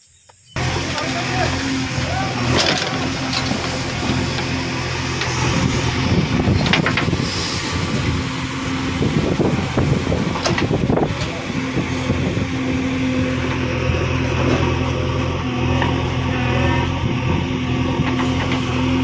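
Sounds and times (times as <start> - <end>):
diesel engine running under load: 0.6 - 19.0.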